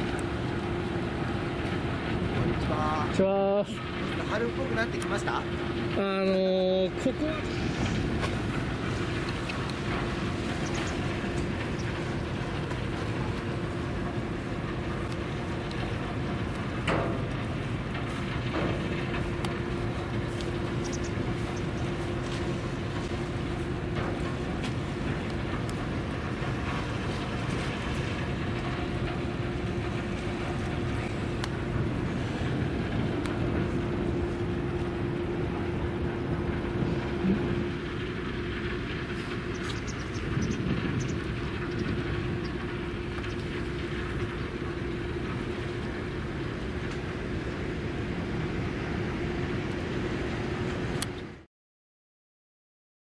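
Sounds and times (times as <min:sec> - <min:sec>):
droning engine hum: 0:00.0 - 0:51.5
low outdoor rumble: 0:00.0 - 0:51.5.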